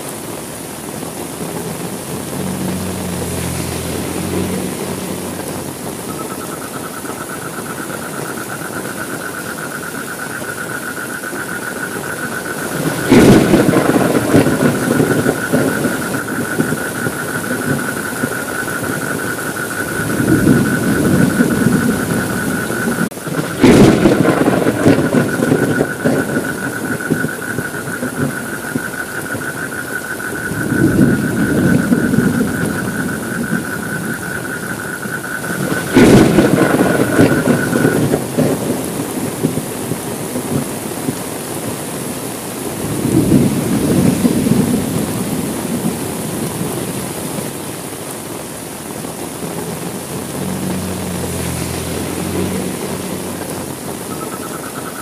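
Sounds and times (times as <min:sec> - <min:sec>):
steady rain: 0:00.0 - 0:55.0
thunder cracks and rumbles: 0:01.4 - 0:09.0, 0:11.9 - 0:47.6, 0:49.0 - 0:54.2.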